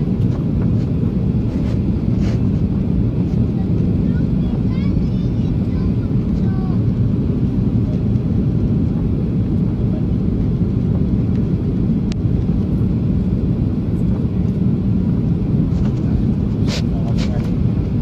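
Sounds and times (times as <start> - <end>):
jet engines and rushing air: 0.0 - 18.0.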